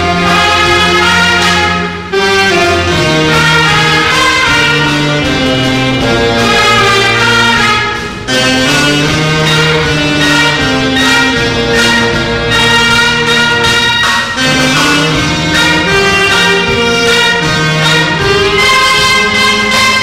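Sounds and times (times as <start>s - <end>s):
brass and wind band playing: 0.0s - 20.0s
sousaphone bass line: 2.5s - 20.0s.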